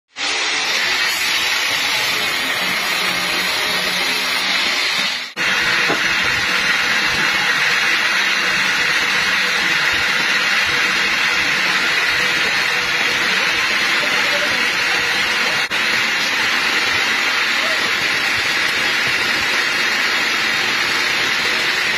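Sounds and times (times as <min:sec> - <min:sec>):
sawmill machinery hissing: 0:00.1 - 0:21.9.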